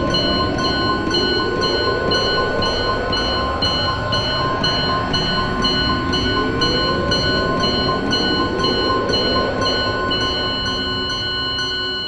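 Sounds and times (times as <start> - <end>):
noisy electronic drone rumble: 0.0 - 11.9
slow rising sweep: 0.0 - 11.9
pulsing chime-like tone: 0.0 - 12.0.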